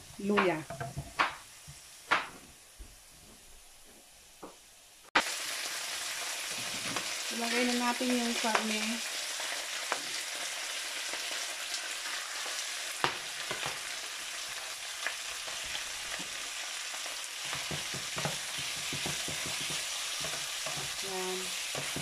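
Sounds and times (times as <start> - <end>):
pork sizzling in hot oil: 0.0 - 3.1, 4.4 - 22.0.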